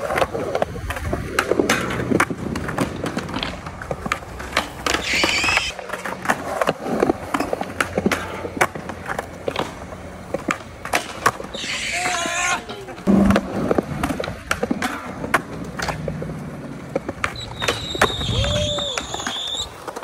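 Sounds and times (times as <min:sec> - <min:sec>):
skateboard clacks: 0:00.0 - 0:20.0
skateboard wheels rolling on concrete: 0:00.0 - 0:20.0.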